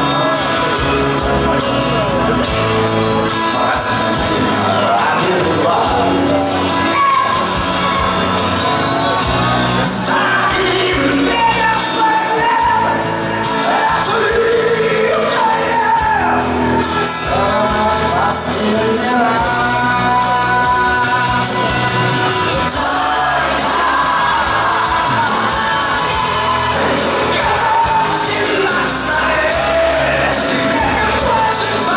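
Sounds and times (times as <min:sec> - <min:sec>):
man singing: 0:00.0 - 0:08.0, 0:09.0 - 0:31.9
pop-rock band playing: 0:00.0 - 0:31.9.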